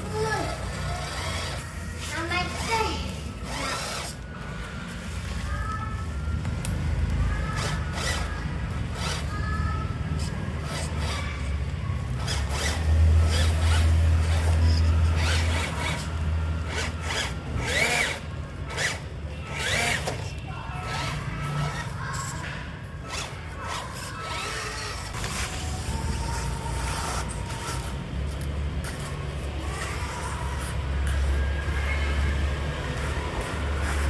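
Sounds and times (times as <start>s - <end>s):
small electric motor whining: 0.0s - 4.6s, 7.3s - 22.4s, 23.0s - 34.0s.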